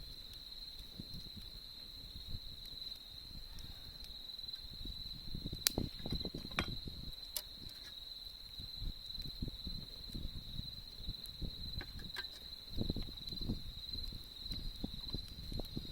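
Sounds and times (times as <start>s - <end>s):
campfire crackling: 0.0s - 15.9s
crickets trilling: 0.0s - 15.9s
fire popping: 0.0s - 15.9s.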